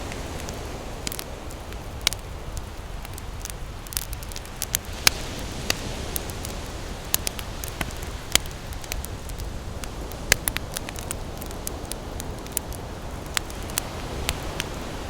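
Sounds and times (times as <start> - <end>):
campfire crackling and popping: 0.0 - 15.0
ocean surf rumble: 0.0 - 15.0.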